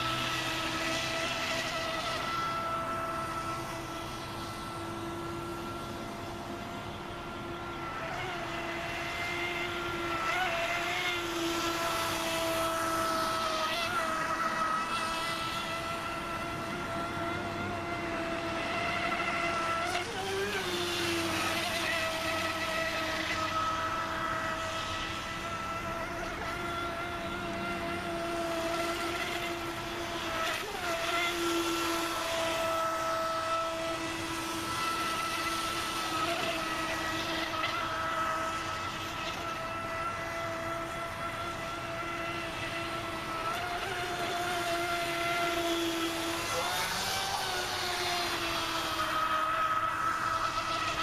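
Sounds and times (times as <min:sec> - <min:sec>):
electric motor high-pitched whine: 0:00.0 - 0:51.0.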